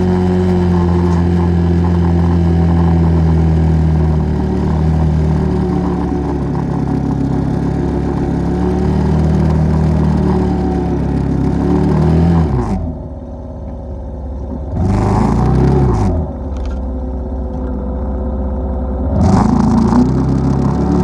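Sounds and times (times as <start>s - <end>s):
atv engine revving: 0.0s - 13.2s, 14.6s - 16.8s, 19.0s - 21.0s.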